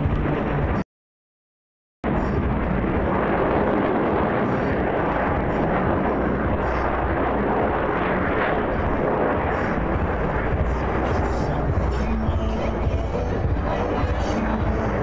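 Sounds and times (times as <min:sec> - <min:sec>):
jets flying overhead: 0:02.0 - 0:15.0.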